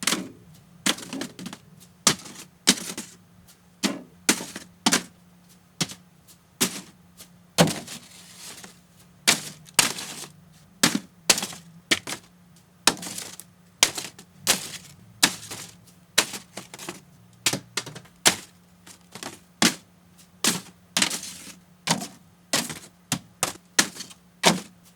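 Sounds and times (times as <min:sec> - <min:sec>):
paper airplanes tapping a fridge: 0:00.0 - 0:03.2, 0:03.8 - 0:05.2, 0:05.8 - 0:06.0, 0:06.6 - 0:07.0, 0:07.6 - 0:24.9.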